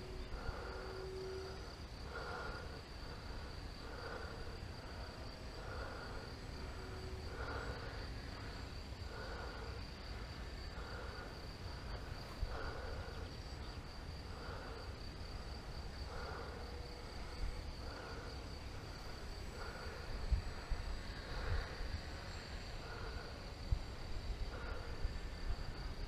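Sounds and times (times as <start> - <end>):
insects chirring: 0.0 - 26.0
soft pulsing insect call: 0.0 - 26.0.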